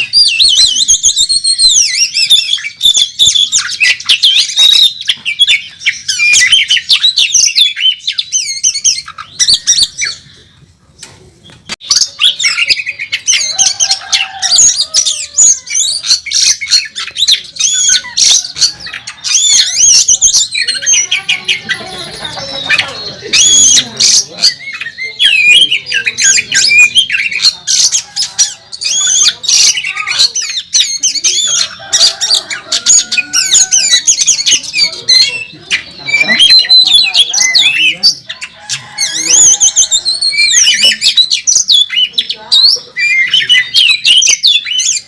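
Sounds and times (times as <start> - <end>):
bird singing whistles and trills: 0.0 - 10.4, 11.5 - 45.0.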